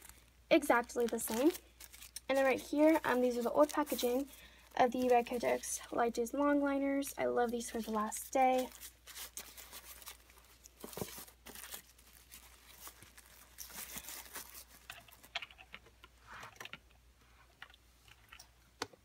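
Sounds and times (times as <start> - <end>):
wrappers rustling and crinkling: 0.0 - 16.7.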